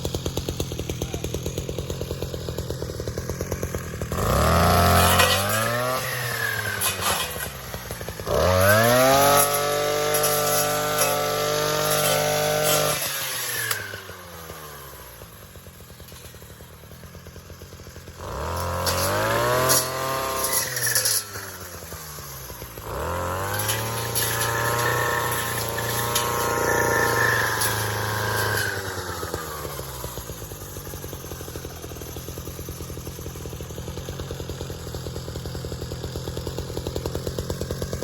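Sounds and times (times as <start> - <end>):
weed trimmer engine revving: 0.0 - 38.0.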